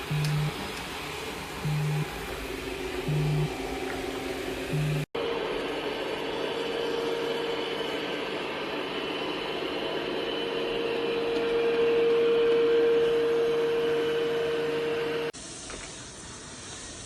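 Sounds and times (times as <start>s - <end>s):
robot vacuum whining hum: 0.0s - 16.6s.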